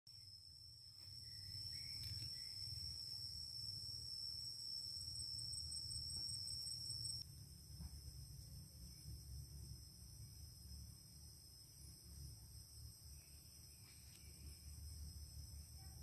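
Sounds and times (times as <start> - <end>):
insects trilling chorus: 0.1 - 16.0.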